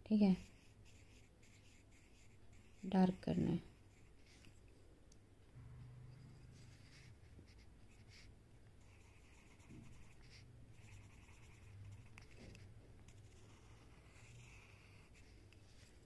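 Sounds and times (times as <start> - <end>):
pencil scratching on paper: 0.2 - 4.6, 6.1 - 16.0.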